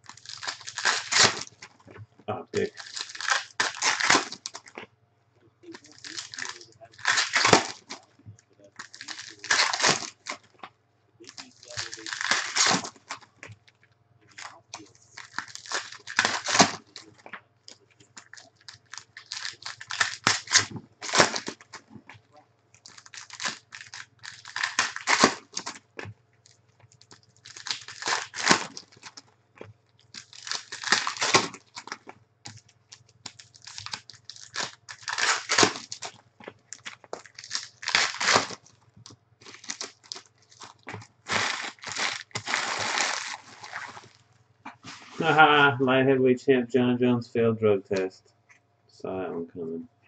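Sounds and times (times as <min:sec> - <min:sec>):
foil wrappers tearing and crinkling: 0:00.0 - 0:01.9, 0:02.6 - 0:04.8, 0:05.7 - 0:10.6, 0:11.2 - 0:22.2, 0:22.8 - 0:45.3.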